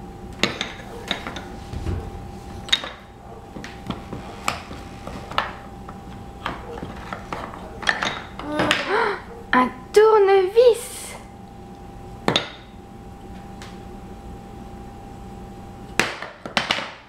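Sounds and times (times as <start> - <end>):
faint steady hum: 0.0 - 16.6.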